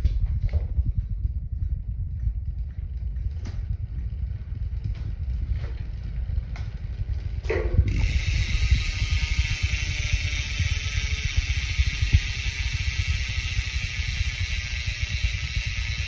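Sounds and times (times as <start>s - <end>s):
bicycle hub high-pitched buzz: 0.0s - 16.0s
bicycle wheel rumbling: 0.0s - 16.0s.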